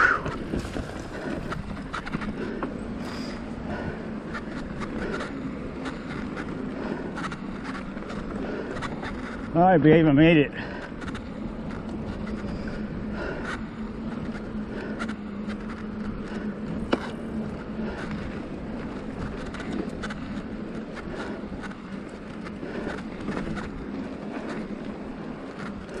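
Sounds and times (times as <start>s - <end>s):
bike clicks and rattles: 0.0s - 26.0s
bike tyres rolling on dirt: 0.0s - 26.0s.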